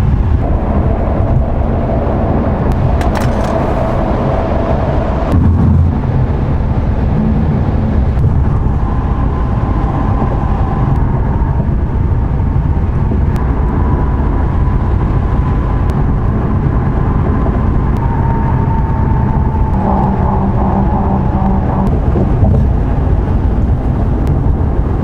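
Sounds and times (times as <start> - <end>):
car engine and tyre drone: 0.0 - 25.0
faint whine: 0.0 - 25.0.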